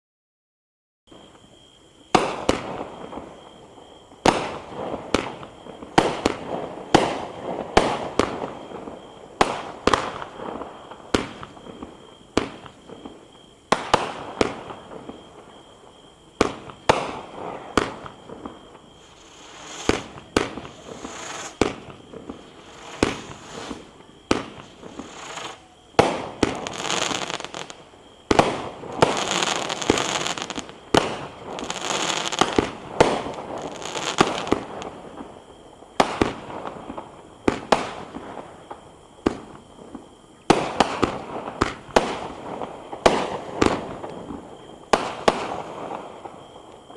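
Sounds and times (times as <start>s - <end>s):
firework crackling: 2.1s - 46.9s
firework reports: 2.2s - 46.9s.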